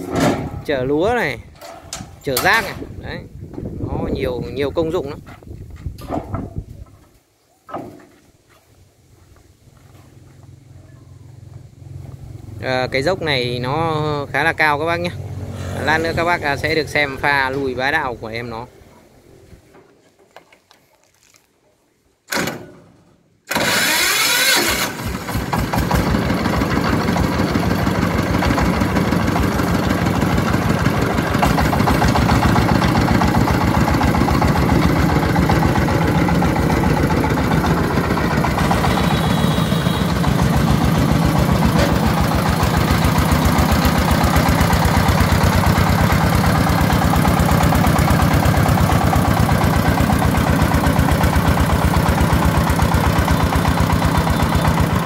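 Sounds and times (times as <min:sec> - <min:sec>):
diesel engine starting and chugging: 0:00.0 - 0:05.2, 0:09.7 - 0:19.4, 0:23.5 - 0:55.0.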